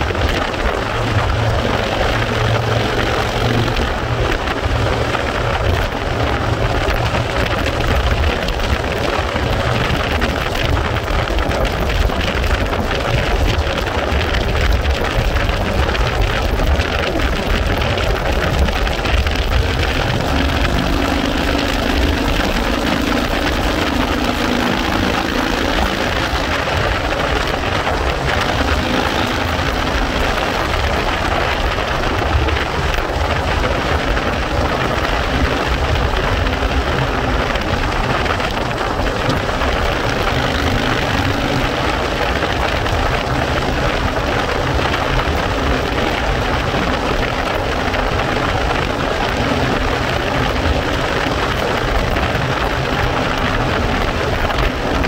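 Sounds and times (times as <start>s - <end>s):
low hum: 0.0s - 55.0s
road and engine noise: 0.0s - 55.0s
wind buffeting microphone: 0.0s - 55.0s.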